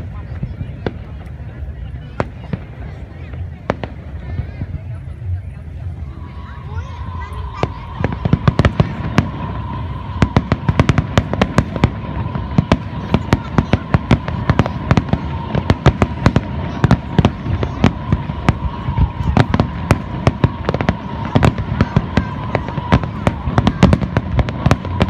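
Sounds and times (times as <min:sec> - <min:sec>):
continuous low rumble: 0:00.0 - 0:25.0
firework bangs: 0:00.0 - 0:25.0.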